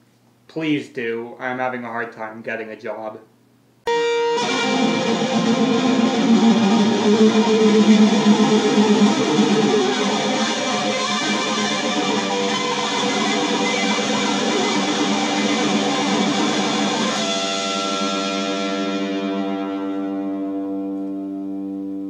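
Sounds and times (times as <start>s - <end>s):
strummed guitar: 3.9s - 22.0s.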